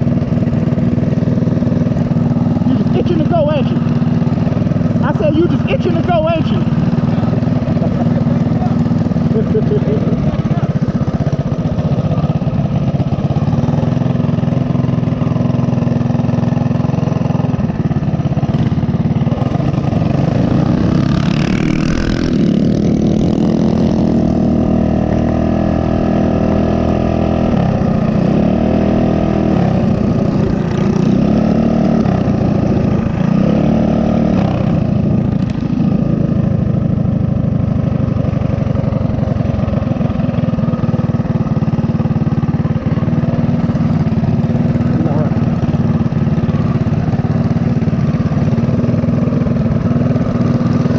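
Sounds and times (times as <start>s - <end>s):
small motorbike engine revving: 0.0s - 50.9s.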